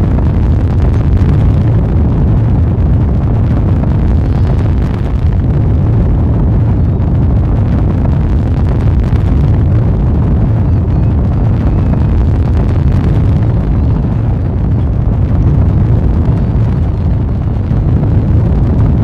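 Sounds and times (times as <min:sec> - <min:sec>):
rocket engines rumbling with crackle: 0:00.0 - 0:19.0.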